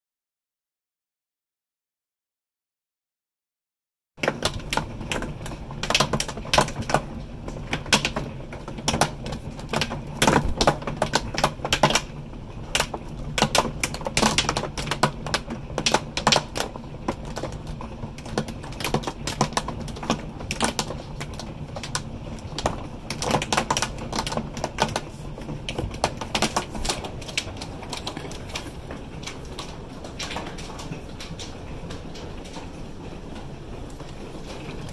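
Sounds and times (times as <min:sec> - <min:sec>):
hailstones pelting a window: 0:04.2 - 0:34.9.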